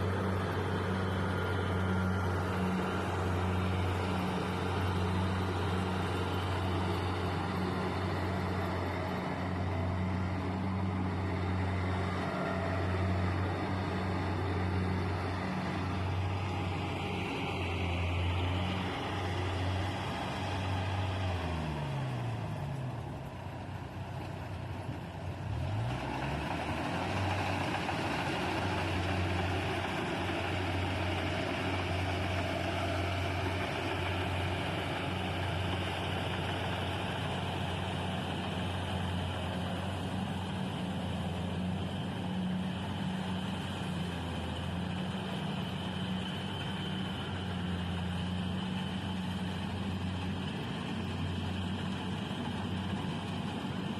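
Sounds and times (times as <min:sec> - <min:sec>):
harvester engine running: 0:00.0 - 0:53.9.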